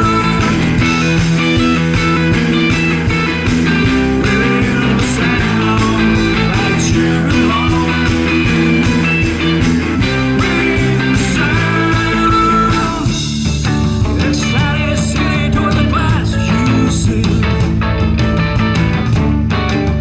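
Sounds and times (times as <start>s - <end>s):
electric guitar: 0.0s - 20.0s
psychedelic rock instrumental: 0.0s - 20.0s.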